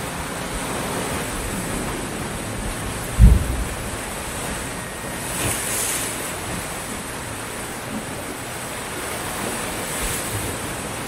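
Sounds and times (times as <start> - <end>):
ocean surf breaking on shore: 0.0 - 11.0.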